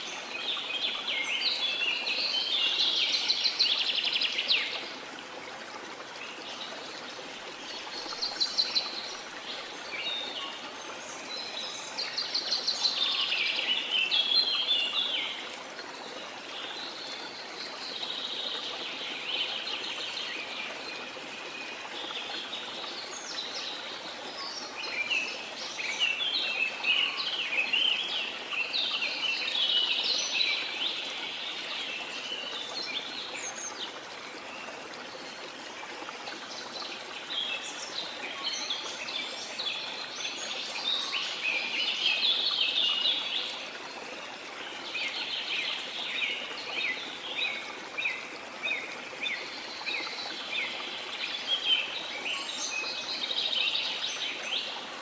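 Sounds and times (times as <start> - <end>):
waterfall water running: 0.0 - 55.0.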